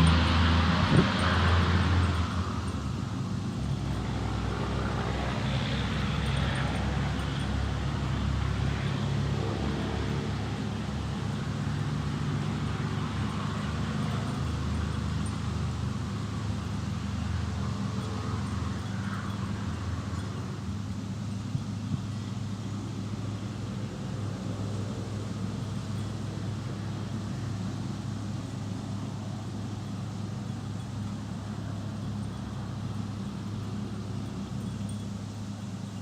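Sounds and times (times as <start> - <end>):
faint road noise: 0.0 - 36.0
vehicle engine running: 0.0 - 36.0.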